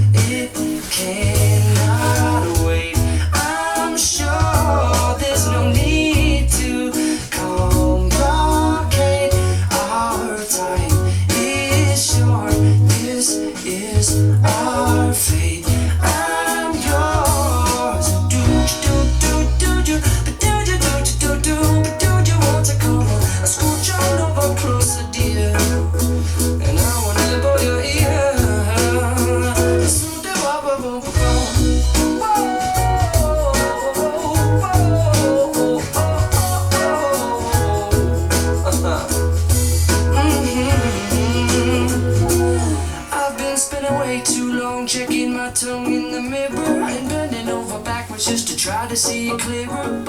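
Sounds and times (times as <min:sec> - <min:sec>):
pop song over speakers: 0:00.0 - 0:50.0.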